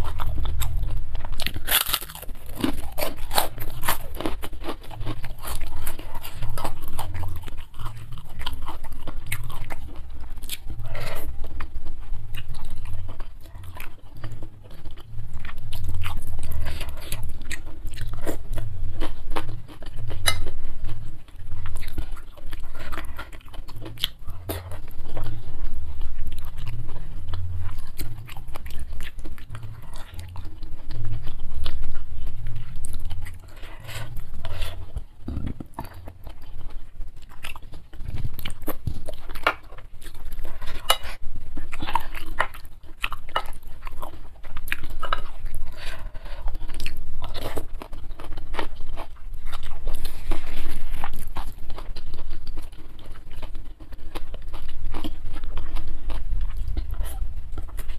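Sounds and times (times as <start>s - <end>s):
crunching and chewing crackers: 0.0s - 57.9s.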